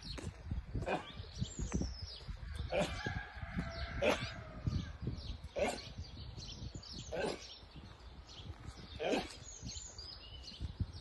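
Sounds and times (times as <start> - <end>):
birds chirping: 0.0 - 11.0
wind on microphone: 0.0 - 11.0
short loud bird calls: 0.8 - 10.6.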